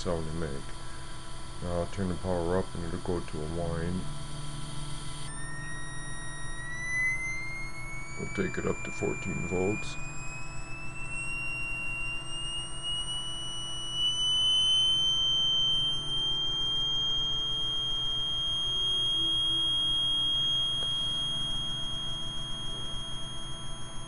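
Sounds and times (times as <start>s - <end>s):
high-pitched electronic whine: 0.0s - 24.0s.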